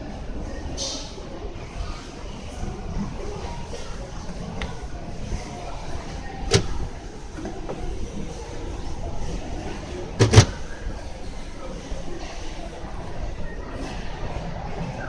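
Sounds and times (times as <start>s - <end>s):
shop background noise: 0.0s - 15.0s.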